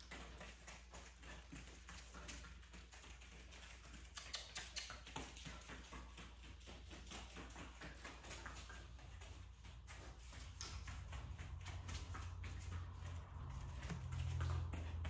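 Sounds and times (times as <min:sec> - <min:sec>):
dog claws tapping on foam mats: 0:00.0 - 0:15.0.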